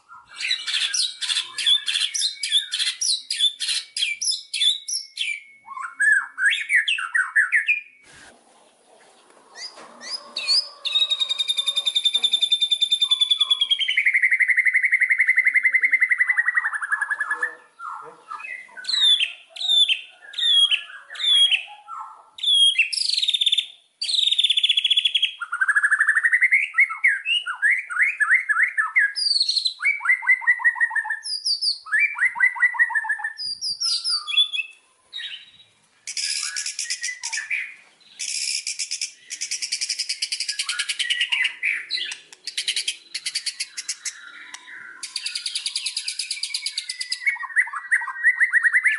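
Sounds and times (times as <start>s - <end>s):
songbird whistling song: 0.0s - 8.3s, 9.5s - 48.9s.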